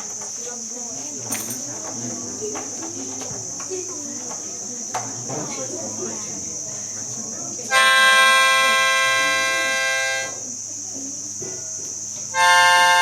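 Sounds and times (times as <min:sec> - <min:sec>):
insects chirring: 0:00.0 - 0:13.0
murmur of voices: 0:00.0 - 0:13.0.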